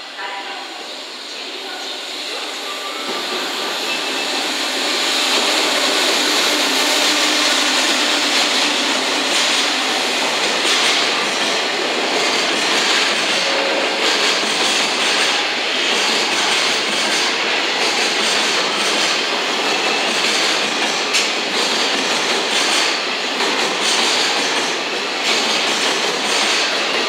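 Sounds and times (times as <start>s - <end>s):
electric locomotive passing: 0.0s - 27.0s.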